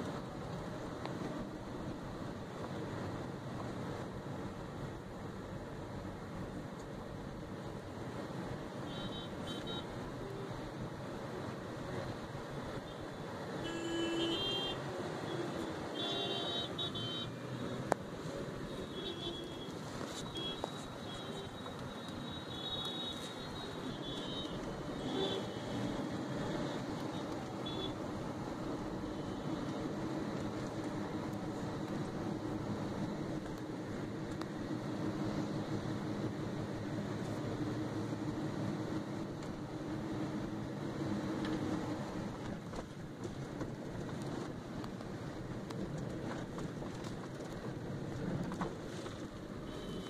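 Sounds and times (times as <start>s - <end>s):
road noise inside moving car: 0.0s - 50.0s.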